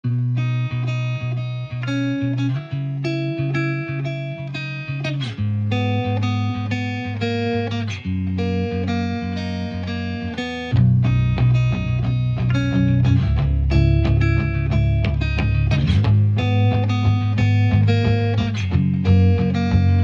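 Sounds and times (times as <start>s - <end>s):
guitar chords: 0.0s - 20.0s.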